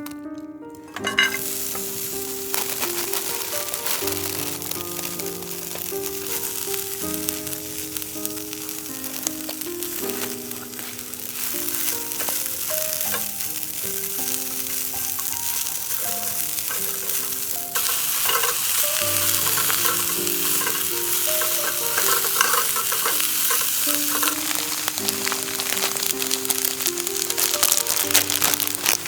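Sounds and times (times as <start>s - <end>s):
soft background music: 0.0s - 29.0s
food sizzling in a frying pan: 1.0s - 29.0s.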